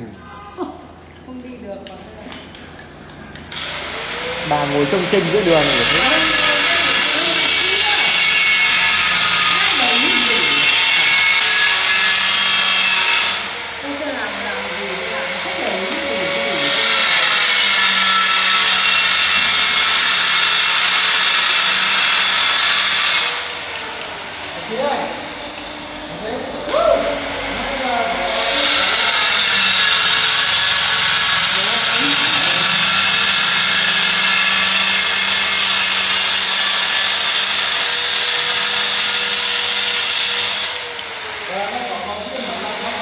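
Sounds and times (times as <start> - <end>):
power tool high hissing whine: 3.6 - 43.0.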